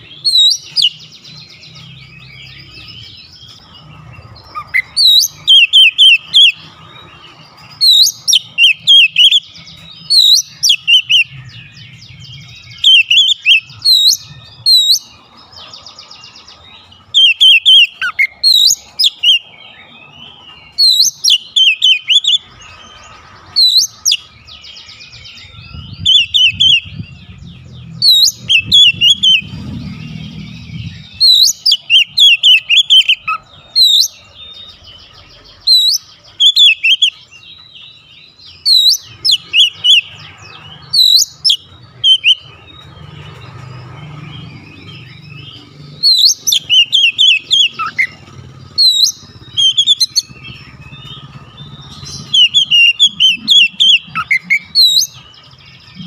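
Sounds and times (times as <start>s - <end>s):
bird singing whistled notes: 0.0s - 56.0s.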